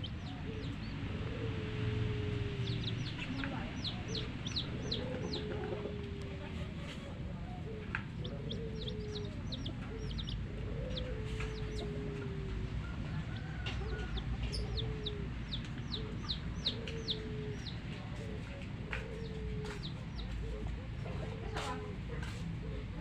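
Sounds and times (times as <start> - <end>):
hen clucking: 0.0 - 21.9
chicks peeping: 0.0 - 23.0.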